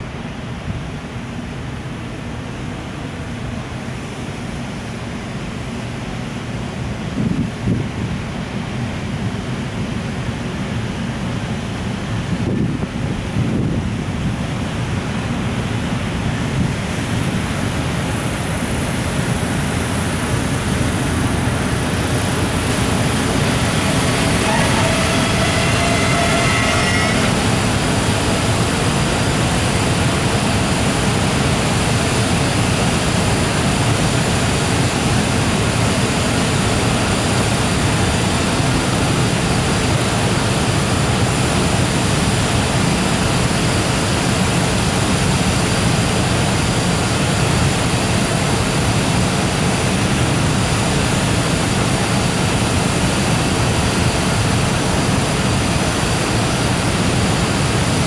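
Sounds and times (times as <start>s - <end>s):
train wheels rumbling on rails: 7.0s - 58.0s
electric locomotive whine: 7.8s - 58.0s.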